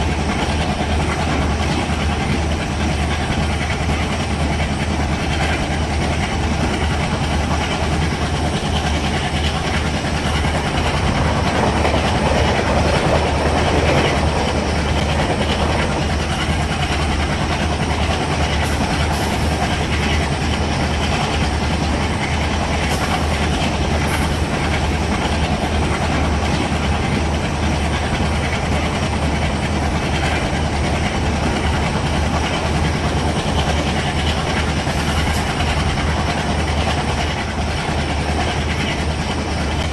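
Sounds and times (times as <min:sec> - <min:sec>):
diesel locomotive engine drone: 0:00.0 - 0:39.9
train wheels clattering on rails: 0:00.0 - 0:39.9.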